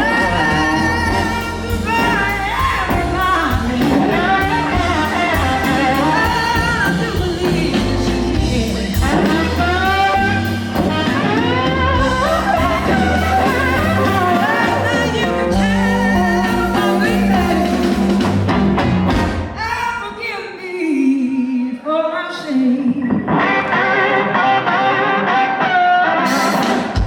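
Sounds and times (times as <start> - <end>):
person singing: 0.0 - 18.5, 19.6 - 26.9
live blues band playing: 0.0 - 20.1, 23.0 - 27.0.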